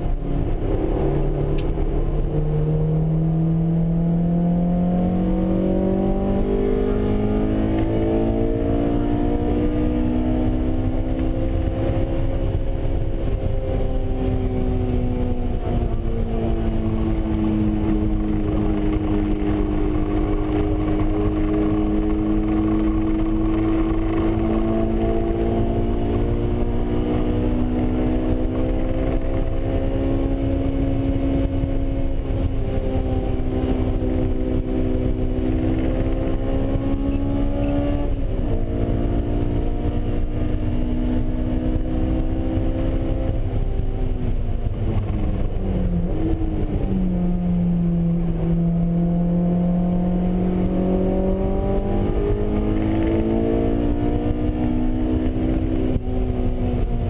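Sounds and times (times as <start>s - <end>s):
car engine accelerating: 0.0s - 57.0s
road and wind noise: 0.0s - 57.0s.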